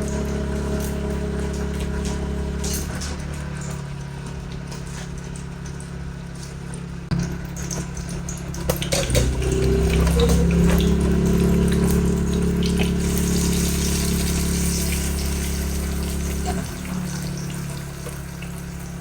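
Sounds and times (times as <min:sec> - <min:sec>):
motor humming: 0:00.0 - 0:05.8, 0:07.0 - 0:19.0.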